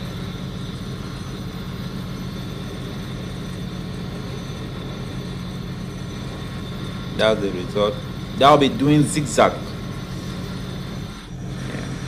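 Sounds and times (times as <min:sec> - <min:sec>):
angle grinder running: 0:00.0 - 0:12.0.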